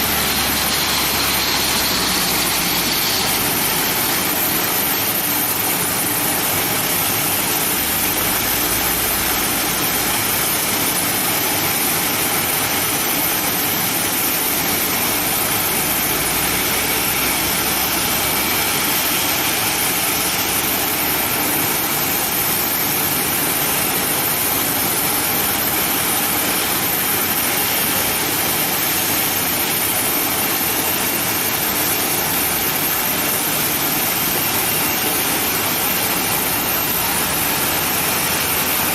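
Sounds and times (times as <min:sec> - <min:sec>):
jet engines idling with whine: 0:00.0 - 0:38.9.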